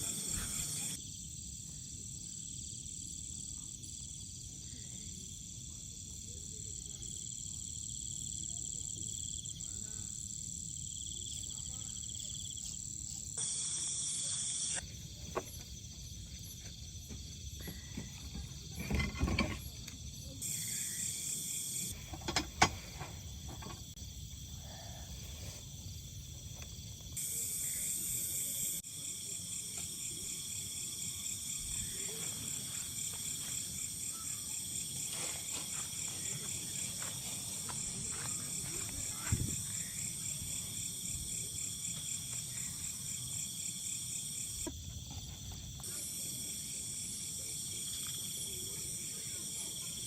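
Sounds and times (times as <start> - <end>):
crickets and night insects trilling: 0.0 - 50.0.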